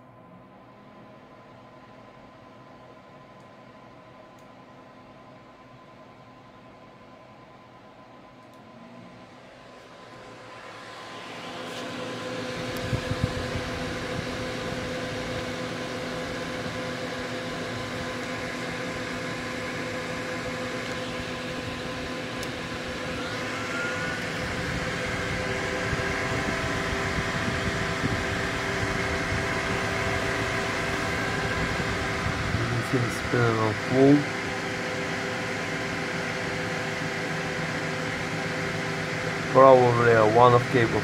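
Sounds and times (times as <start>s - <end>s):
cooling fans whirring: 0.0s - 41.0s
fan tonal hum: 0.0s - 41.0s.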